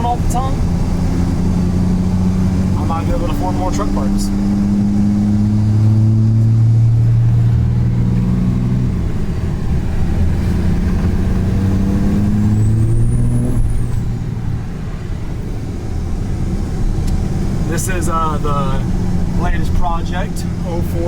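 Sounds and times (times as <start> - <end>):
truck engine accelerating: 0.0 - 21.0.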